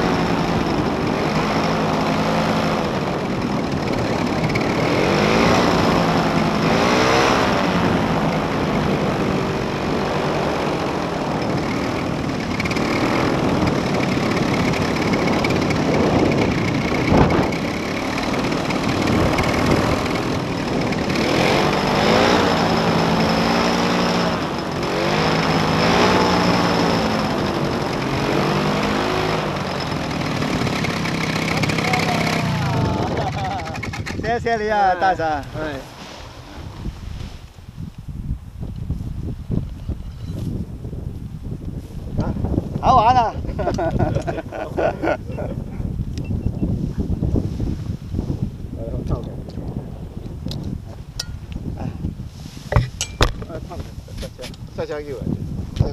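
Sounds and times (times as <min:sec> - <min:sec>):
paramotor engine and propeller: 0:00.0 - 0:55.9.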